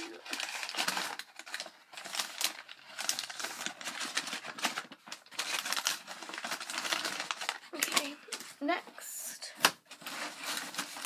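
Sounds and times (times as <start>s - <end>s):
packaging rustling: 0.0s - 8.7s, 9.6s - 11.0s.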